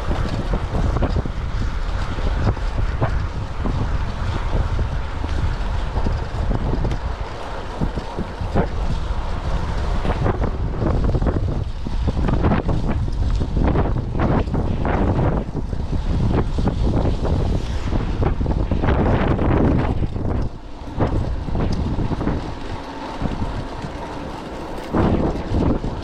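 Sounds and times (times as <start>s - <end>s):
strong wind buffeting microphone: 0.0s - 26.0s.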